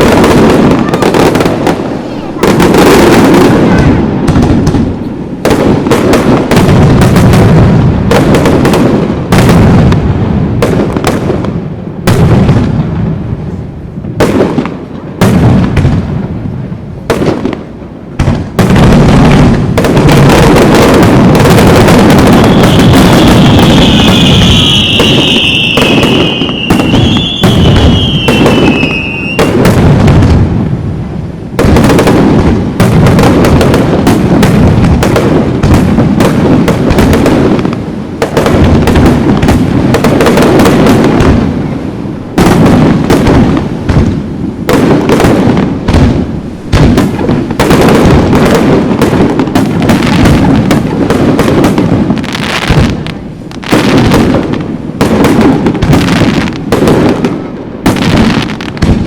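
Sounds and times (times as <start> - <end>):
fireworks booming and crackling: 0.0 - 59.0.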